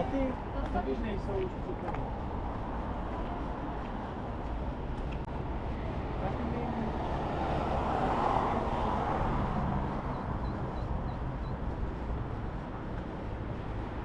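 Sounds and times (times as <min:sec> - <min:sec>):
low traffic rumble: 0:00.0 - 0:14.0
vehicle passing: 0:00.0 - 0:14.0.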